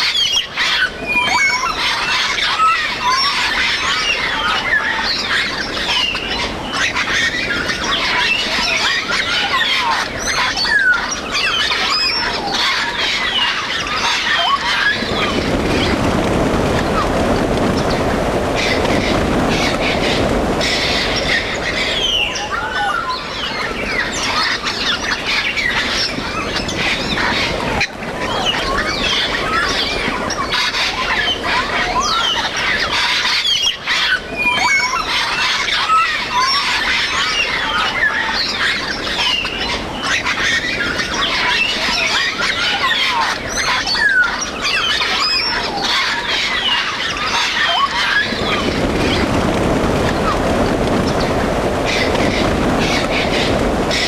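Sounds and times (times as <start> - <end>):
parrots chattering and squawking: 0.0 - 16.0, 17.6 - 49.6, 51.9 - 54.0
flock wingbeats: 0.0 - 54.0.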